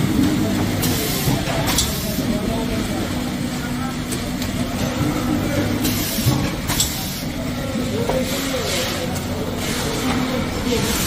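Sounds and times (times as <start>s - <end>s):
wrapping machine humming: 0.0s - 11.0s.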